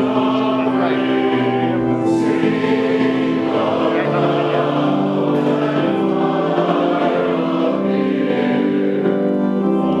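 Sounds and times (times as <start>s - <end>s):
choir singing: 0.0s - 10.0s
organ playing chords: 0.0s - 10.0s.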